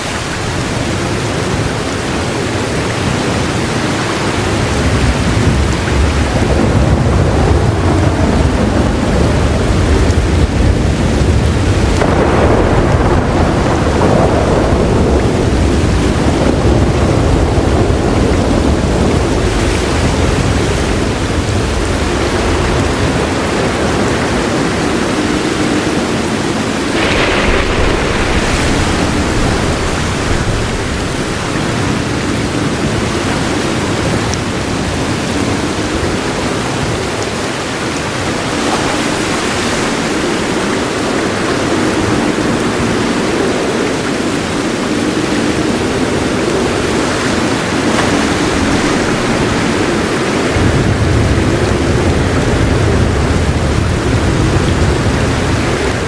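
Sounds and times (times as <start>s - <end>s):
heavy rain: 0.0s - 56.0s
low roll of thunder: 0.2s - 38.7s, 45.3s - 56.0s.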